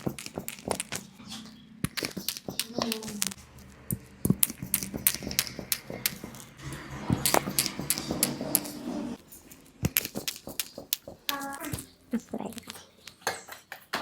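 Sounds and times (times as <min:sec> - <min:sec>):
sharp irregular clicks and taps: 0:00.0 - 0:01.1, 0:01.8 - 0:06.5, 0:07.1 - 0:08.7, 0:09.8 - 0:13.8.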